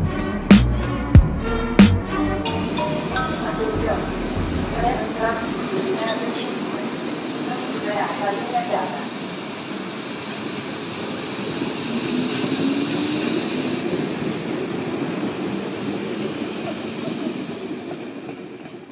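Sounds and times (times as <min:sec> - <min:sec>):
passenger train running on track: 0:00.0 - 0:18.9.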